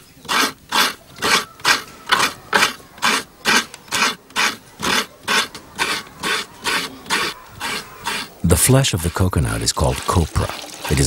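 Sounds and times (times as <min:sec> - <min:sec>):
coconut rasping on grater: 0:00.0 - 0:11.0.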